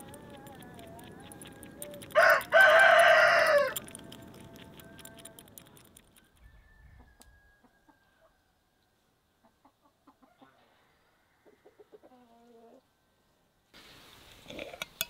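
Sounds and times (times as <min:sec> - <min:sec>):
faint chickens clucking: 0:00.0 - 0:13.0.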